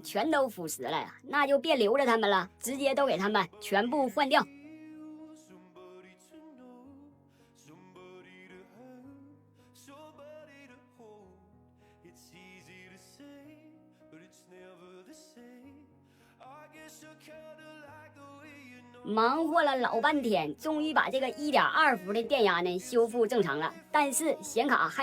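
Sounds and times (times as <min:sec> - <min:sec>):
quiet background music: 0:00.0 - 0:25.0.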